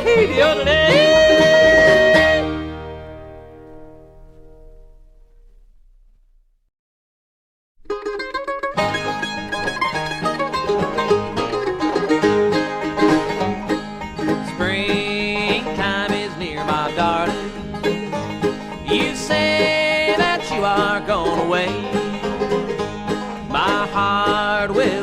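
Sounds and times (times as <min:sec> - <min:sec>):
sliding lead melody: 0:00.0 - 0:06.1, 0:07.9 - 0:25.0
bluegrass band instrumental: 0:00.0 - 0:06.4, 0:07.8 - 0:25.0.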